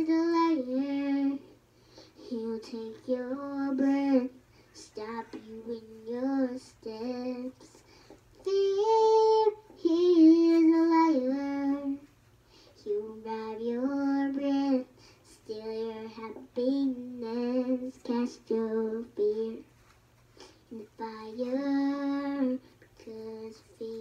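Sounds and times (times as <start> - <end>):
girl singing: 0.0 - 12.2, 12.8 - 19.8, 20.4 - 24.0.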